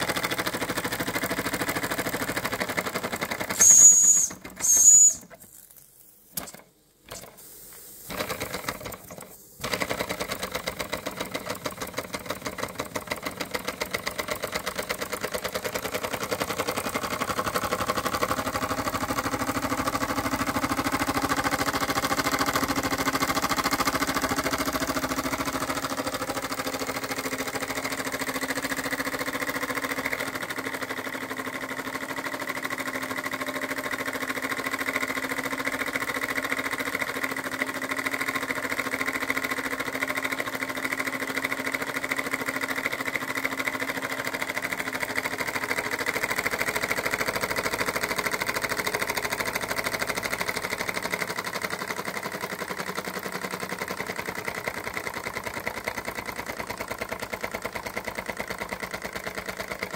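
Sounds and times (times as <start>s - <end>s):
model steam engine running: 0.0s - 5.4s, 6.5s - 59.9s.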